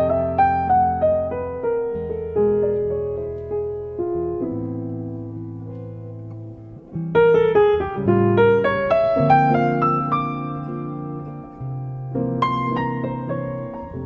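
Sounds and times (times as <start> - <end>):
piano notes and chords: 0.0 - 14.0.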